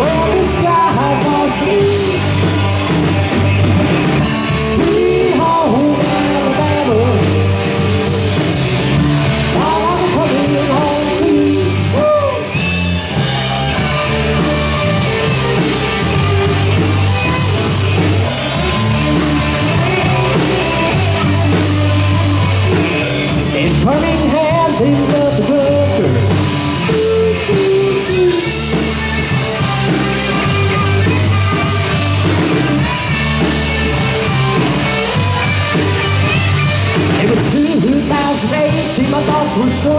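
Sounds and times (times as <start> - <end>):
person singing: 0.0 - 3.0, 4.2 - 8.5, 9.3 - 12.6, 13.2 - 32.0, 34.2 - 39.9
bass line: 0.0 - 39.9
drum kit: 0.0 - 39.9
guitar: 0.0 - 39.9.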